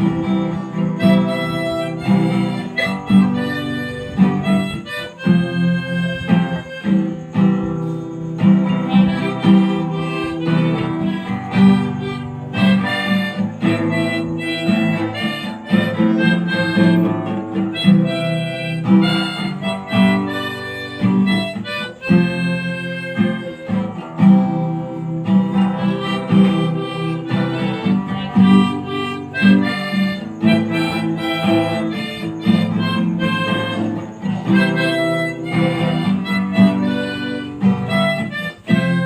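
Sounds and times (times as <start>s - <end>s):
acoustic guitar strumming: 0.0s - 39.0s
harmonica playing a tune: 0.0s - 39.0s.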